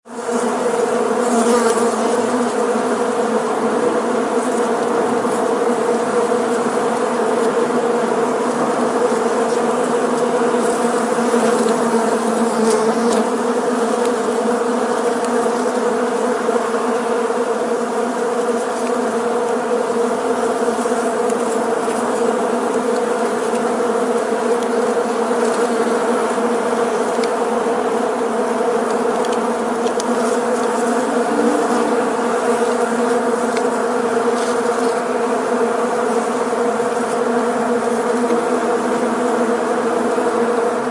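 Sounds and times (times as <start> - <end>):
swarm of bees buzzing: 0.1 - 40.9.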